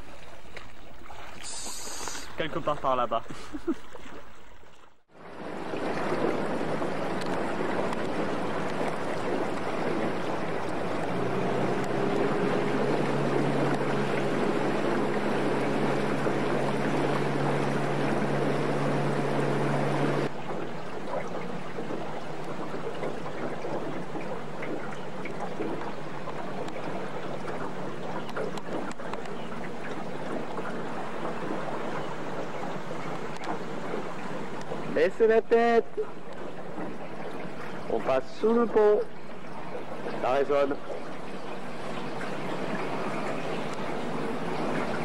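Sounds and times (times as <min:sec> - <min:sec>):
boat motor running: 0:00.0 - 0:45.0
water rushing past hull: 0:00.0 - 0:45.0.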